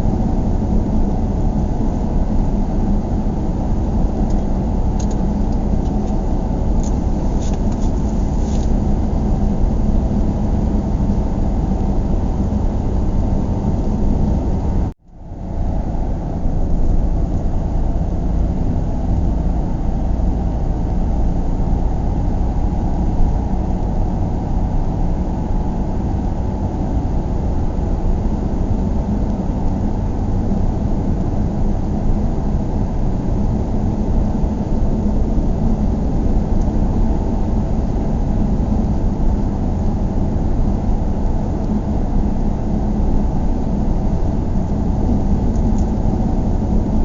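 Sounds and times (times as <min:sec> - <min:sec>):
car road and engine rumble: 0:00.0 - 0:47.0.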